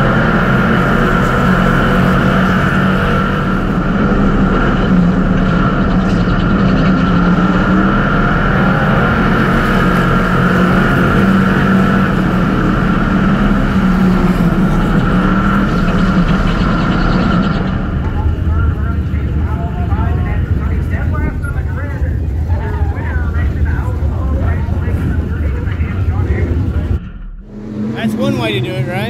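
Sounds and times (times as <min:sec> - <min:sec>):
race car engines droning: 0:00.0 - 0:29.0.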